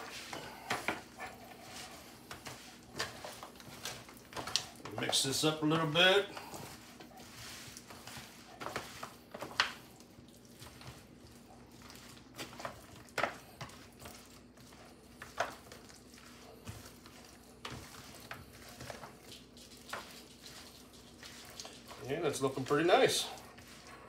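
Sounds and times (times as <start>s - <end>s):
wet squishing of meat: 0.0s - 24.0s
foil pan crackling: 2.4s - 23.7s.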